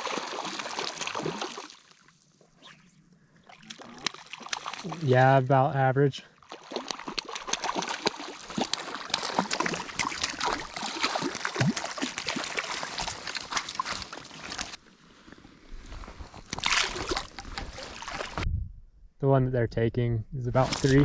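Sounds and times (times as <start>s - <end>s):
water splashing and sloshing: 0.0s - 2.6s, 3.3s - 5.4s, 6.4s - 18.5s.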